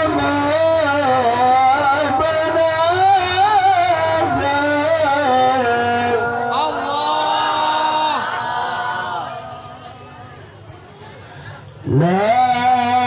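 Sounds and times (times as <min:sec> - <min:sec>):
man reciting melodically: 0:00.0 - 0:10.1, 0:11.4 - 0:13.0.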